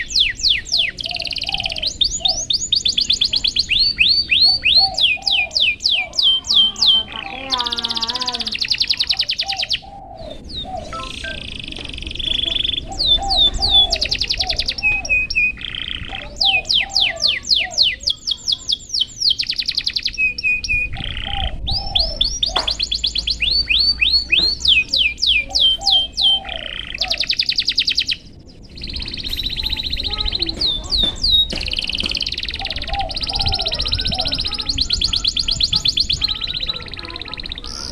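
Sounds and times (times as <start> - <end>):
canary singing: 0.0 - 37.9.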